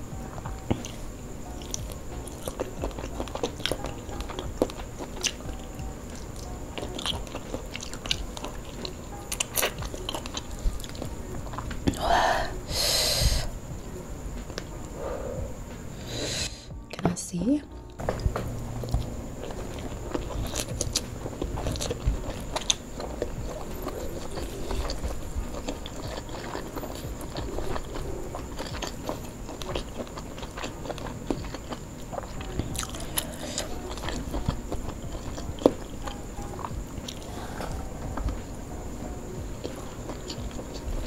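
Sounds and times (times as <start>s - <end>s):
person chewing food: 0.0s - 12.8s, 17.9s - 41.0s.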